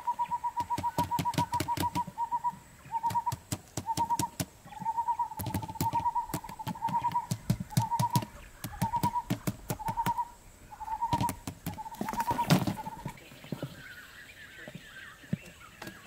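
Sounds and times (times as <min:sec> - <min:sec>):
quail pecking on plastic lid: 0:00.4 - 0:13.8.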